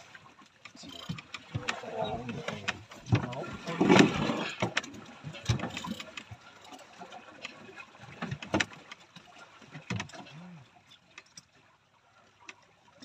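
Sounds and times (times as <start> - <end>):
water lapping at boat hull: 0.0 - 13.0.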